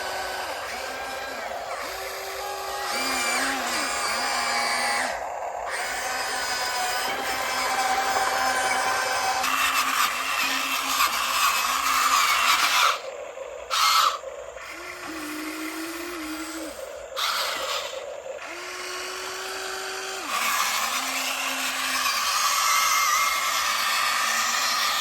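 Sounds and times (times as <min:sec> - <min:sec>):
hydraulic pump motor whining: 0:00.0 - 0:25.0.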